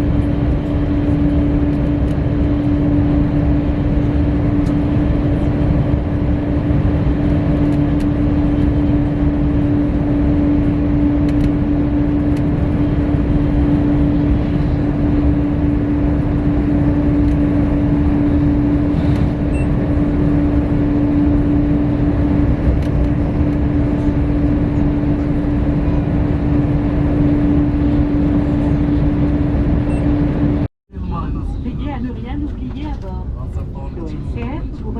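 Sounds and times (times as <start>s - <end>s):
constant hum: 0.0s - 34.9s
train cabin rumble: 0.0s - 34.9s.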